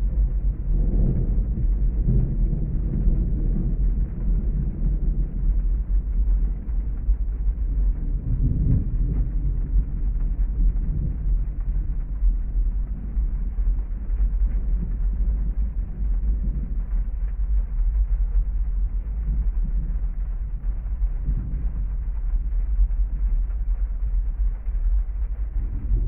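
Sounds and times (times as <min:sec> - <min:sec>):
heavy rain: 0:00.0 - 0:26.0
muffled deep thunder rumble: 0:00.0 - 0:26.0.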